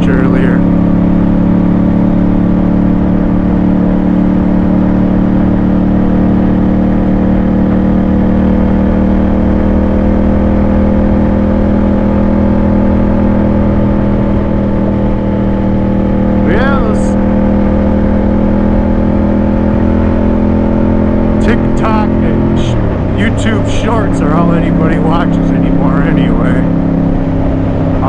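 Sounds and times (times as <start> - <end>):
motorcycle engine cruising: 0.0 - 28.0.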